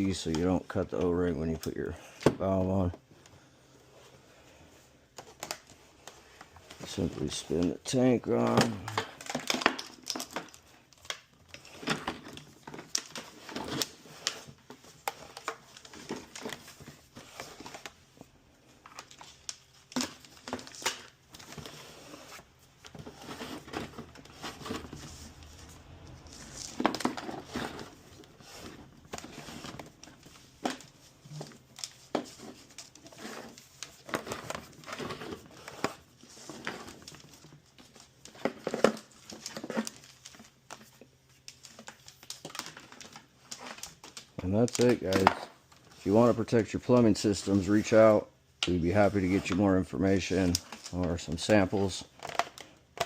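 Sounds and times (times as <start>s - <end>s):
hard plastic parts clicking and scraping: 5.1s - 53.0s.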